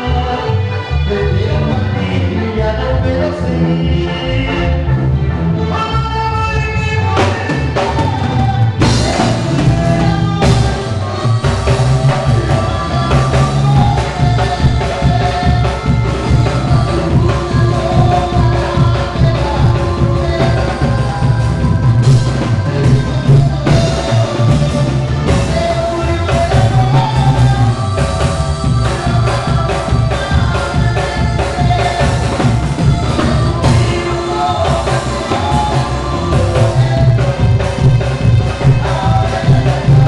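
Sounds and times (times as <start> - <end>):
drum kit and percussion: 5.6 - 40.0.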